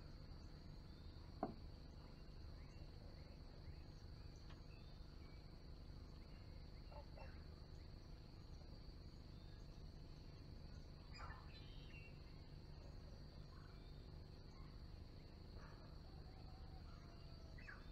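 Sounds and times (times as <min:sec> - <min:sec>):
faint bird chirps: 0:00.0 - 0:17.9.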